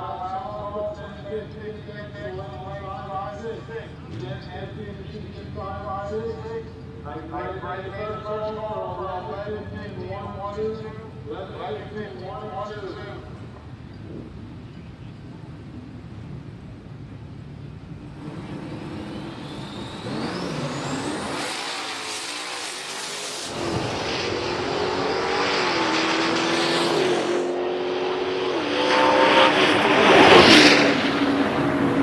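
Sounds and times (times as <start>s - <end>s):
drag racing cars accelerating: 0.3s - 32.0s.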